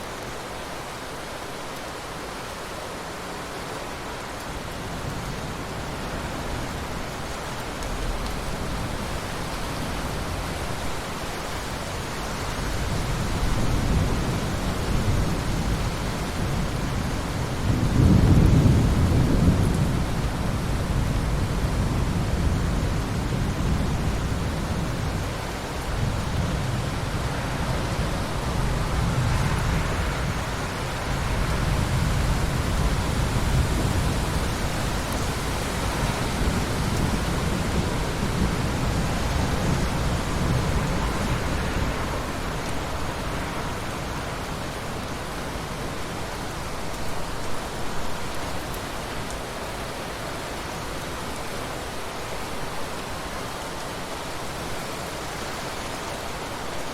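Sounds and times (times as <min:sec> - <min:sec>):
heavy rain in a forest: 0:00.0 - 0:56.9.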